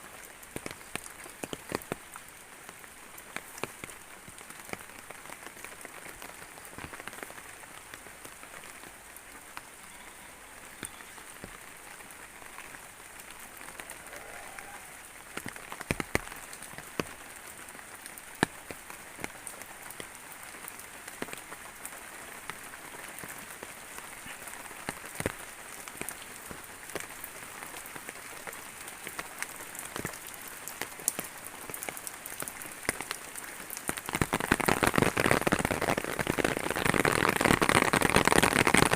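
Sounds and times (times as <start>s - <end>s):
raindrops dripping on surfaces: 0.0s - 38.9s
steady rain falling: 0.0s - 38.9s.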